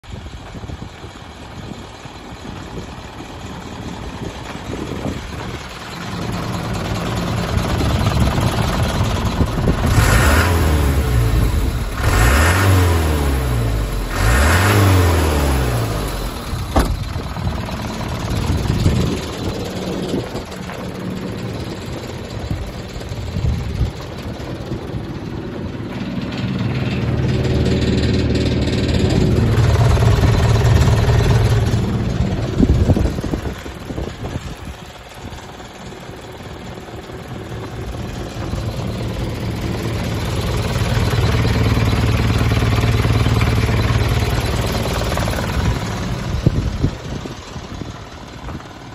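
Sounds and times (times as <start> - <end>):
diesel truck engine idling and revving: 0.0 - 48.9.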